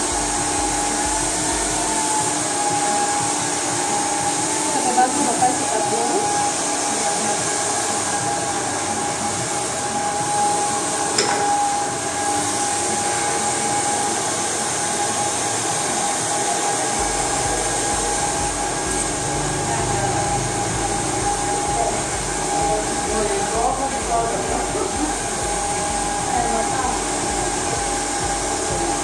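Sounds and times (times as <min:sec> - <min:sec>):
low regular pulsing: 0:00.0 - 0:14.8, 0:15.8 - 0:29.0
hair dryer whirring: 0:00.0 - 0:29.0.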